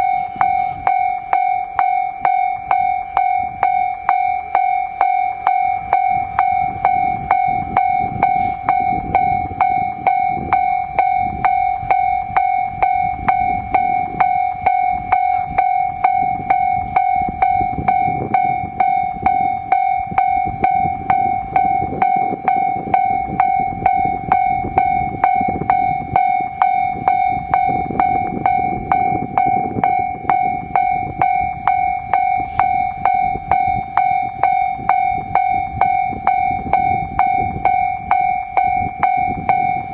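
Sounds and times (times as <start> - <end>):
level crossing alarm bell clanging: 0.0 - 39.9.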